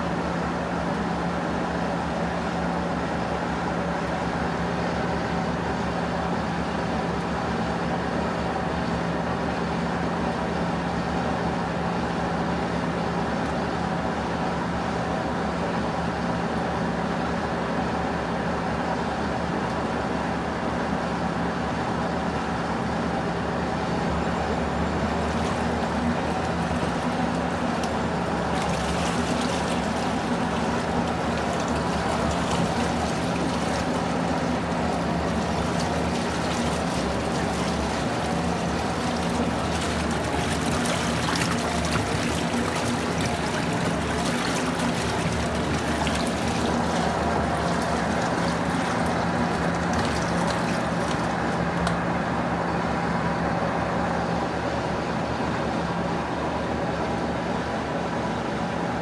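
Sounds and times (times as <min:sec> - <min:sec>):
washing machine churning: 0:00.0 - 0:59.0.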